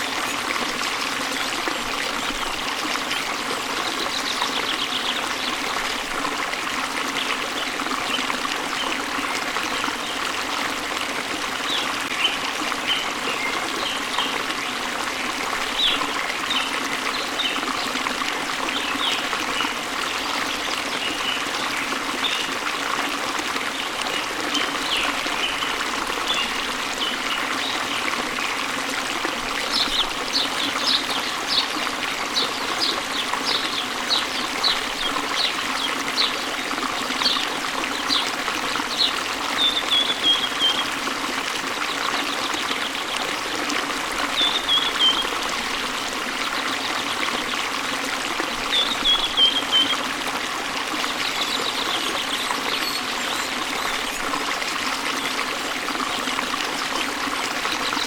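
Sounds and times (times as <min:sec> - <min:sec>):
waterfall and stream flowing: 0:00.0 - 0:58.0.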